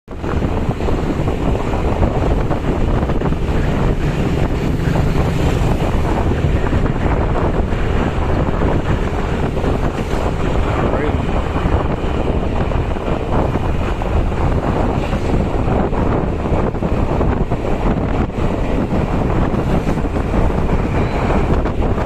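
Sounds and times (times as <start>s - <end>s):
engine and road rumble: 0.0s - 22.0s
wind buffeting microphone: 0.1s - 22.0s.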